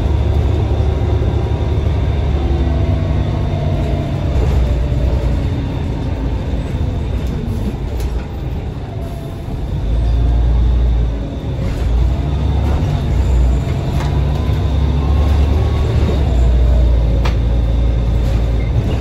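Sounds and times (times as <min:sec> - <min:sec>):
bus engine drone from inside: 0:00.0 - 0:19.0.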